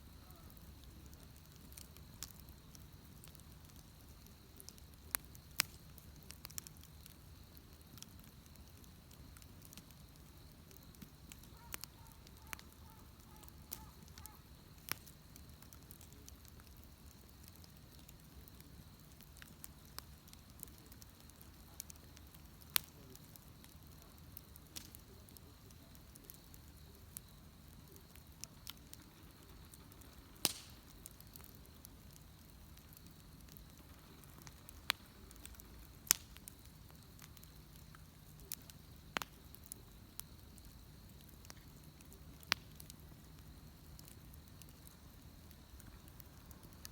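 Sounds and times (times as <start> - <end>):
low hiss and rumble of fire: 0.0 - 46.9
wood fire crackling and popping: 0.0 - 46.9.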